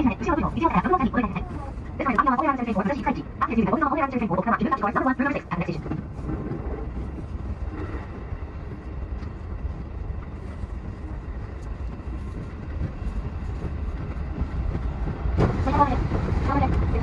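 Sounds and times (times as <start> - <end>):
electric train rumbling on rails: 0.0 - 17.0.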